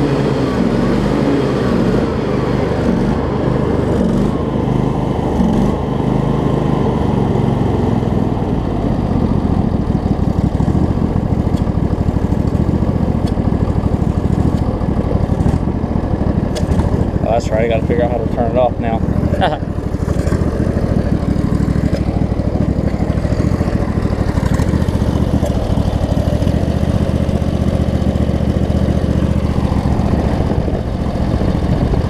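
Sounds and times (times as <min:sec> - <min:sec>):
riding mower engine running: 0:00.0 - 0:32.0.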